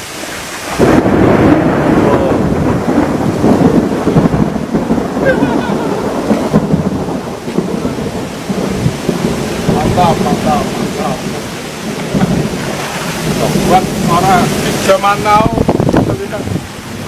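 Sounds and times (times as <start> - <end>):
heavy rain: 0.0 - 17.0
thunder rumble: 0.0 - 17.0.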